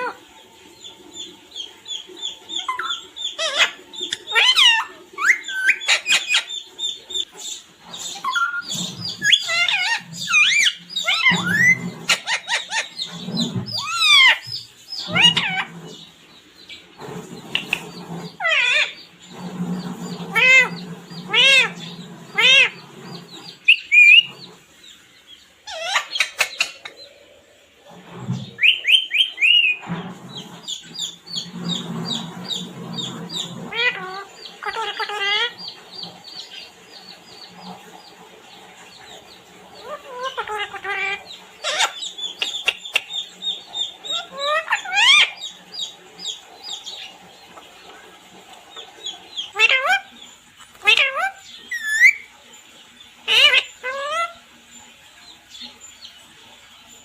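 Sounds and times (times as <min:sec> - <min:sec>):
parrot chirping and calling: 0:00.0 - 0:27.2, 0:28.1 - 0:37.9, 0:38.9 - 0:47.8, 0:48.7 - 0:56.2.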